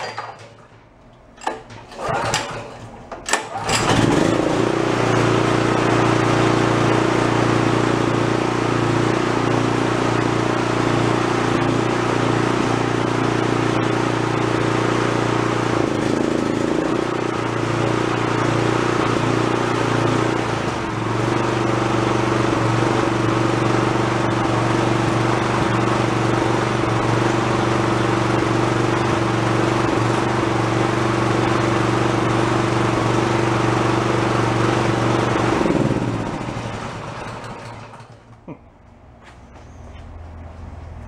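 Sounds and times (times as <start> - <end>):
pressure washer engine running: 3.3 - 38.5.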